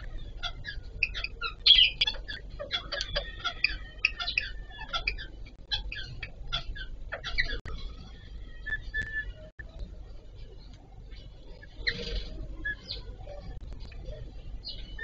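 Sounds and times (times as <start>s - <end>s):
parakeets chattering: 0.0s - 9.5s, 10.4s - 15.0s.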